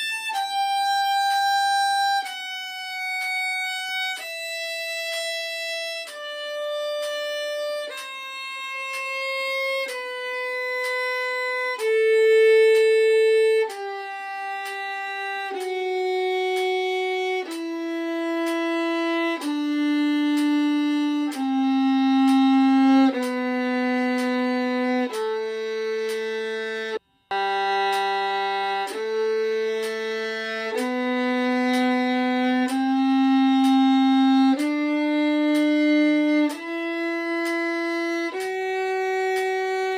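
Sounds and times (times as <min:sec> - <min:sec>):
violin playing a scale: 0:00.0 - 0:39.9.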